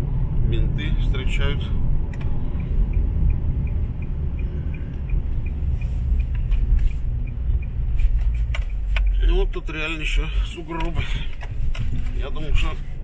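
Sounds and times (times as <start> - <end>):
car road and engine rumble: 0.0 - 13.0
turn signal ticking: 0.0 - 13.0.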